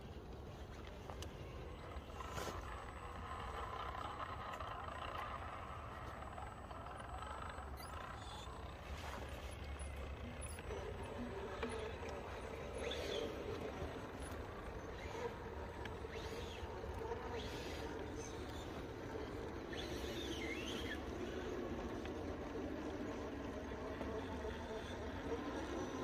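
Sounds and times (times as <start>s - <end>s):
electric motor whining: 1.1s - 26.0s.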